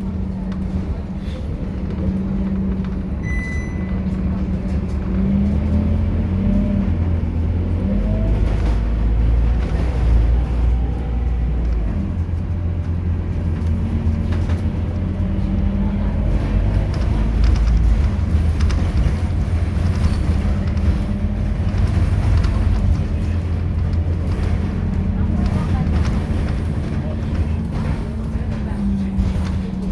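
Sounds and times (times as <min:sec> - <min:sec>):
diesel bus engine droning: 0:00.0 - 0:29.9.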